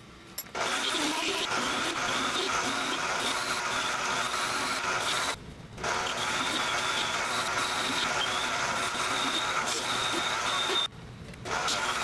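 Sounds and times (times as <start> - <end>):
metal lathe whining: 0.6 - 10.9.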